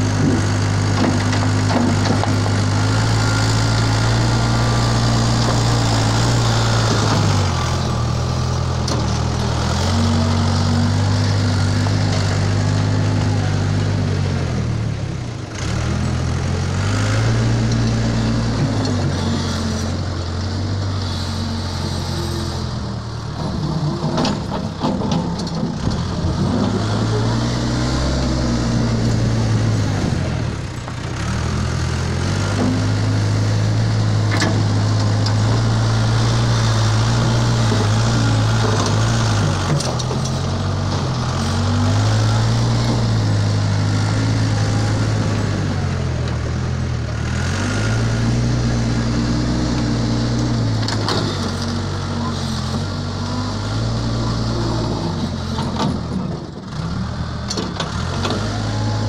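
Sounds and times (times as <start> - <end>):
diesel engine working under load: 0.0 - 59.0.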